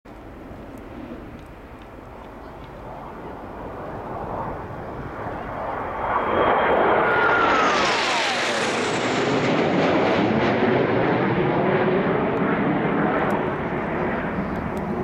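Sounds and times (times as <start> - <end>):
jet planes passing overhead: 0.1 - 15.0.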